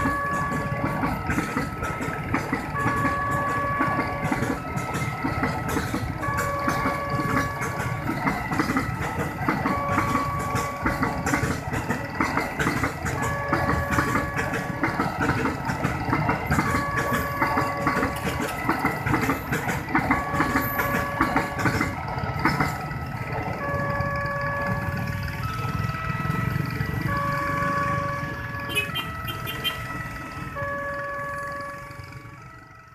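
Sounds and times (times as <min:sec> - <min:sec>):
level-crossing warning siren: 0:00.0 - 0:32.9
train wheels clattering: 0:00.0 - 0:32.9.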